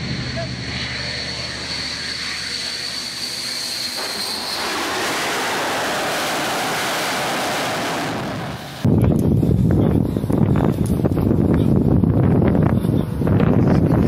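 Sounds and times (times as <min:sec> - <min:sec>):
jet engine roar: 0:00.0 - 0:14.0
jet engine whine: 0:00.0 - 0:14.0.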